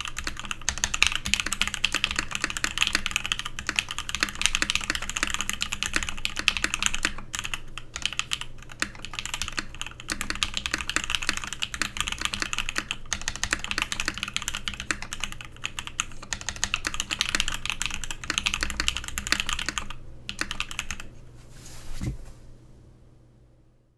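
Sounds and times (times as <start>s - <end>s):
fast mechanical keyboard typing: 0.0s - 21.1s.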